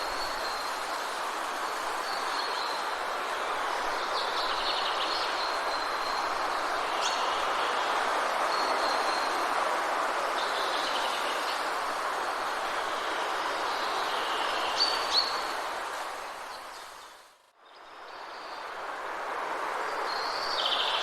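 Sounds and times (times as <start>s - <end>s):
steady rushing hiss: 0.0s - 17.2s.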